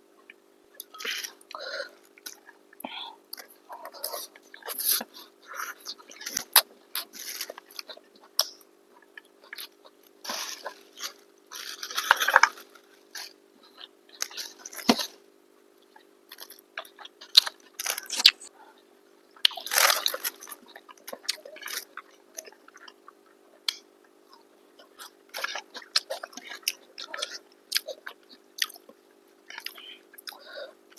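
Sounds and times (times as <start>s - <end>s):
faint hum: 0.0s - 30.9s
people chewing food: 0.2s - 18.8s, 19.4s - 30.9s.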